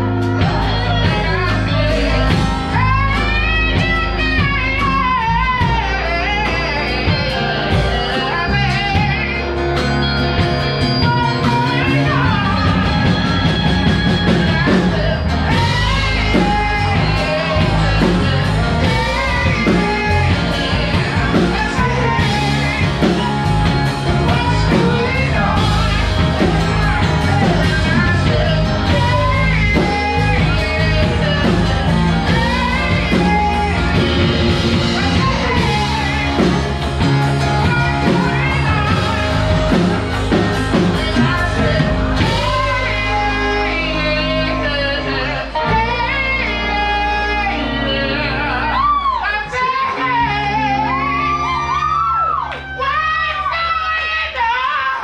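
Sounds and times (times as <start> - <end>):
drum kit: 0.0 - 54.6
bass guitar: 0.0 - 55.0
electric guitars: 0.0 - 55.0
person singing: 0.0 - 55.0.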